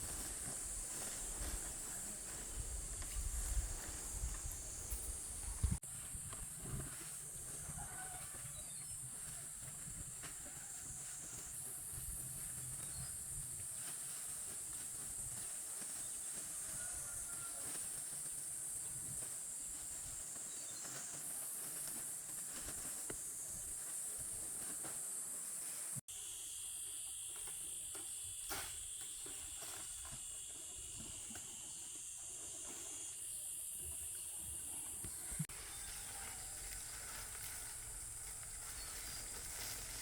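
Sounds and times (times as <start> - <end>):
lower insect tone: 0.0 - 40.0.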